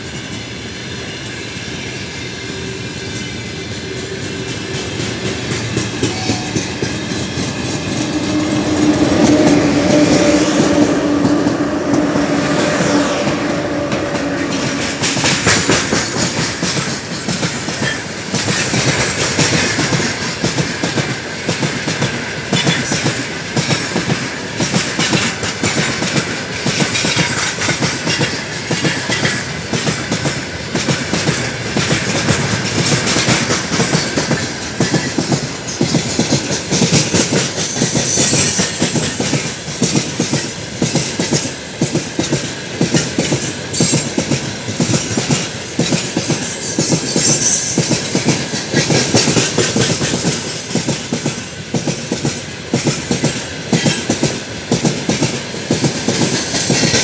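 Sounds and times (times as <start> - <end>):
rumble of train wheels on rail: 0.0 - 57.0
wheels clickety-clack on rail joints: 3.0 - 57.0.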